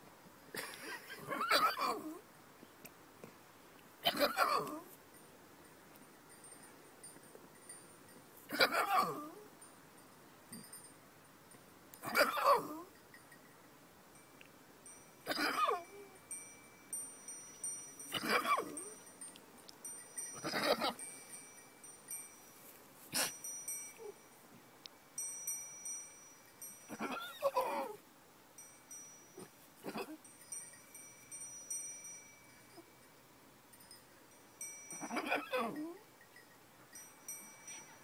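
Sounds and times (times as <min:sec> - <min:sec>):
faint high tinkling: 0:03.4 - 0:38.0.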